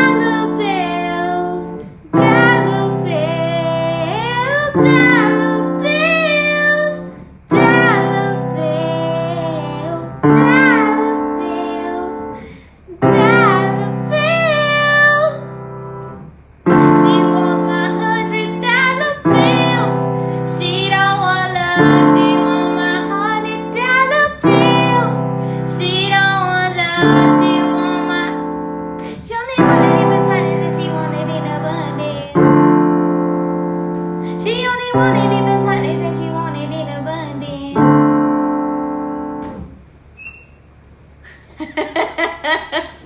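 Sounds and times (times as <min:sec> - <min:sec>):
sustained keyboard chords: 0:00.0 - 0:12.4, 0:13.0 - 0:39.6
woman singing slow melody: 0:00.0 - 0:15.7, 0:16.7 - 0:33.2, 0:34.0 - 0:38.4.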